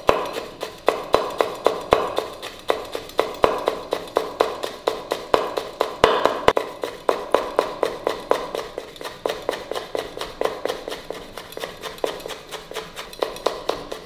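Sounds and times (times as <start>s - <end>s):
knife chopping on wooden board: 0.0s - 14.0s.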